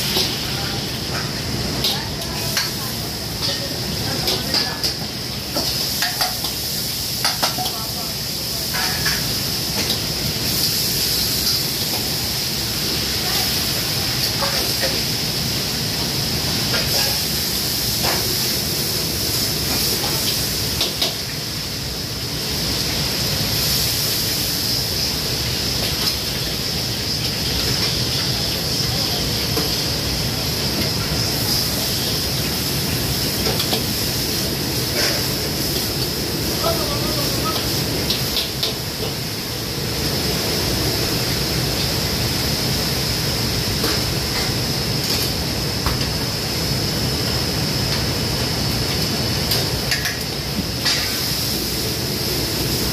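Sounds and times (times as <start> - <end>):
wok burners and frying hiss: 0.0 - 52.9.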